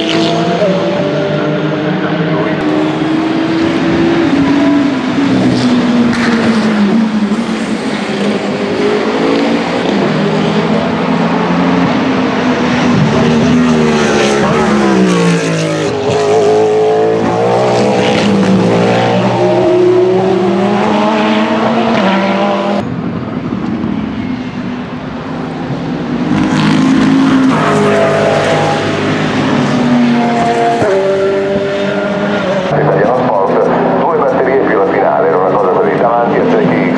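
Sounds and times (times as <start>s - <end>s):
race cars passing at speed: 0.0s - 36.9s.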